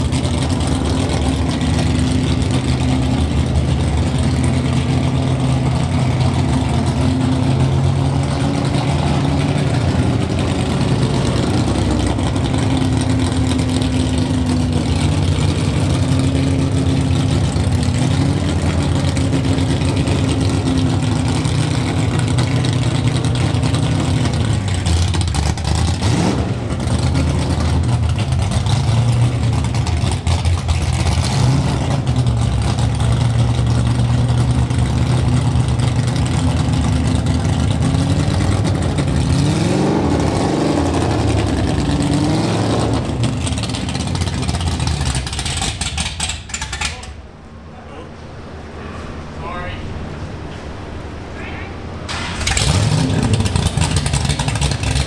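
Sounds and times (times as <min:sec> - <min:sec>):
engine lumpy idle and revving: 0:00.0 - 0:55.0.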